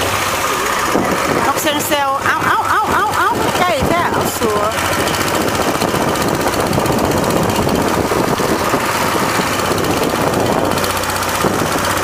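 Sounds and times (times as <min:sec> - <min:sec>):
small boat engine knocking: 0:00.0 - 0:12.0.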